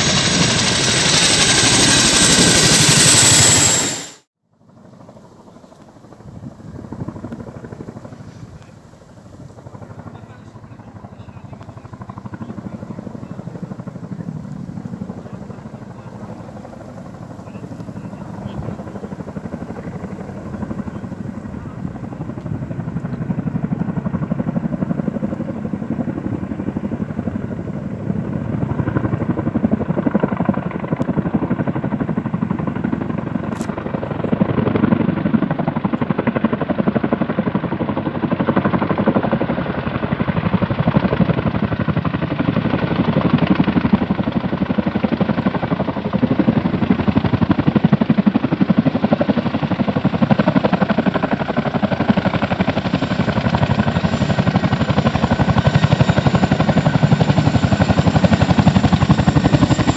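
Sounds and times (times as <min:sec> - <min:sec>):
helicopter rotor beat: 0:00.0 - 0:59.9.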